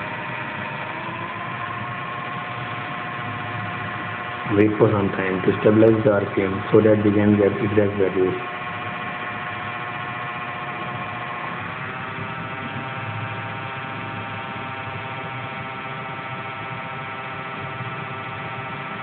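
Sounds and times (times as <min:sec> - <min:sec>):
small electric motor whine: 0:00.0 - 0:19.0.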